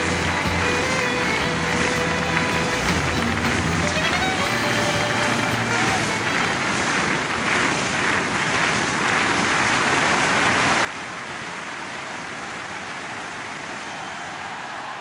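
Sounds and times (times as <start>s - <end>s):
stadium crowd noise: 0.0s - 15.0s.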